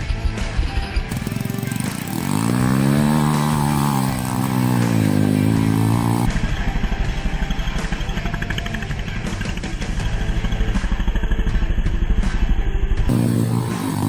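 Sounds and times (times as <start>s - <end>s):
small motorcycle engine revving and idling: 1.0s - 14.0s.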